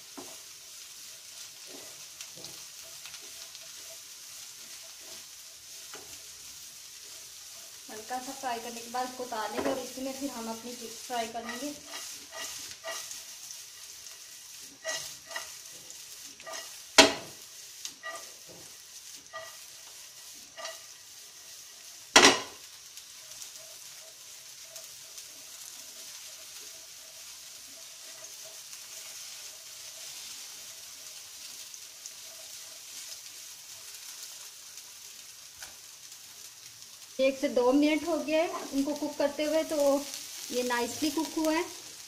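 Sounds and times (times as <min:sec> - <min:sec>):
spatula scraping a pan: 0:00.0 - 0:35.9, 0:37.6 - 0:42.0
meat sizzling in oil: 0:00.0 - 0:42.0.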